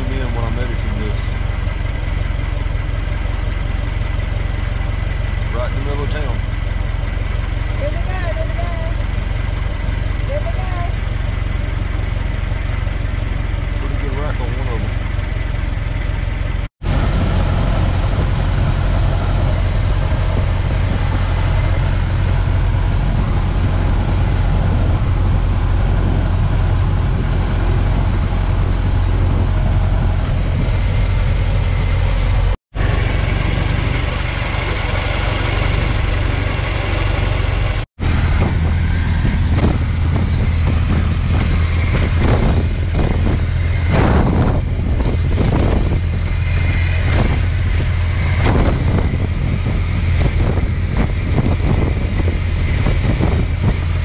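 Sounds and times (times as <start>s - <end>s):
car engine running: 0.0s - 54.0s
road and wind noise: 0.0s - 54.0s.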